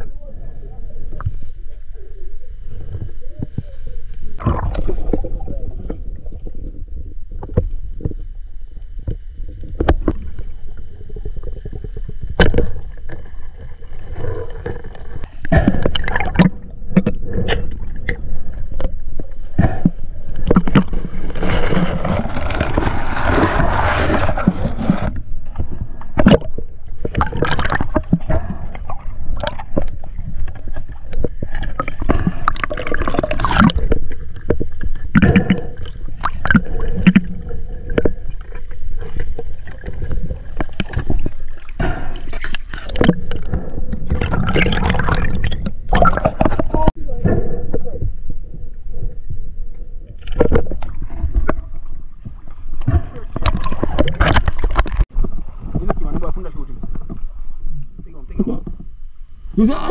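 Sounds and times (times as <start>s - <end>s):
water sloshing and splashing: 2.6s - 47.2s, 47.8s - 59.0s.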